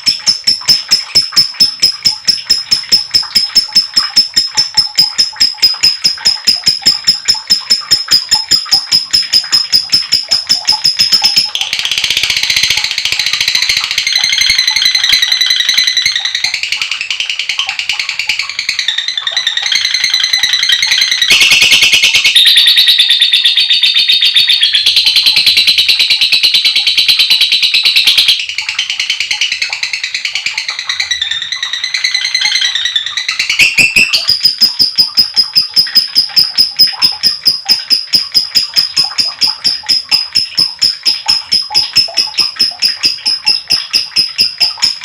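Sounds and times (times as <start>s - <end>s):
lovebird shrill rapid chatter: 0.0s - 28.6s, 29.6s - 45.0s.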